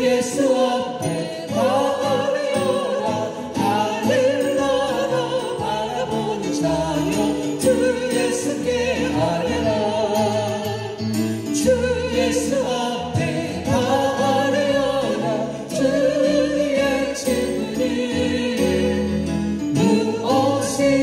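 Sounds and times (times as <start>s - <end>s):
instrumental accompaniment: 0.0s - 21.0s
people singing a hymn in harmony: 0.0s - 21.0s.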